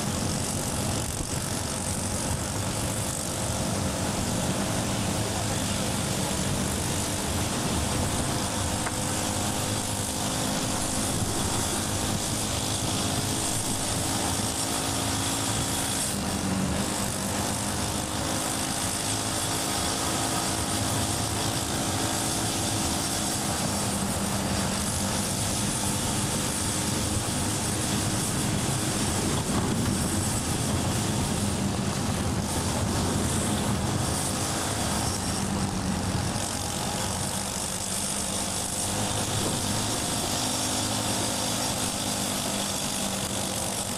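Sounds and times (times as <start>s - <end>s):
lawnmower engine drone: 0.0s - 43.9s.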